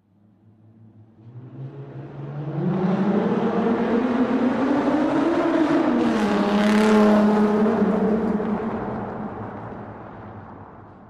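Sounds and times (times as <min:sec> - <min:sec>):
car passing in tunnel: 0:00.2 - 0:11.0.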